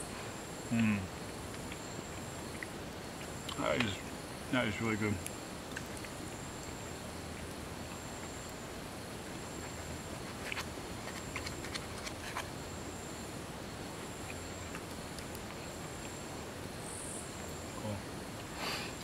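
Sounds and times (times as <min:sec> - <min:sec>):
night insects droning: 0:00.0 - 0:19.0.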